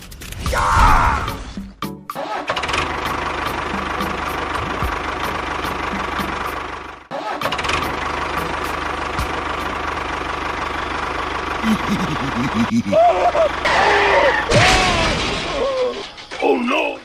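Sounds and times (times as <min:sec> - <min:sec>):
tractor engine running: 0:01.4 - 0:17.0.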